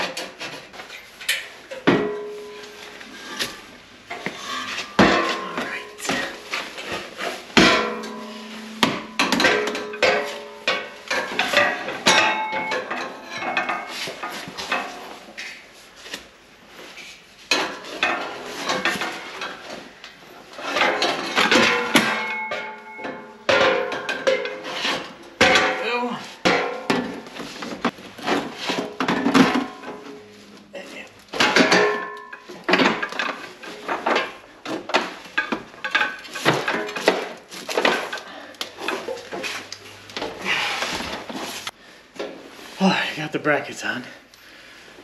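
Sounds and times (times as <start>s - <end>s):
metal exhaust parts clanking: 0.0s - 15.6s, 17.5s - 41.8s.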